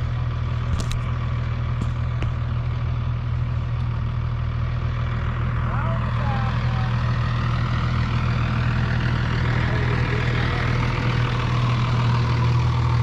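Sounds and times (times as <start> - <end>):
heavy truck engine idling: 0.0 - 13.0.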